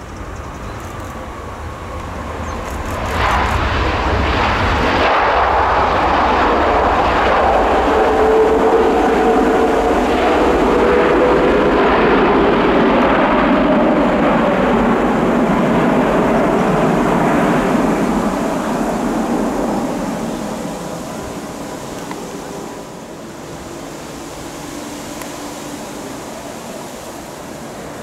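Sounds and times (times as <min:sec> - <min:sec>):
jet engines roaring: 0:00.0 - 0:28.0
falling engine whine: 0:01.2 - 0:28.0.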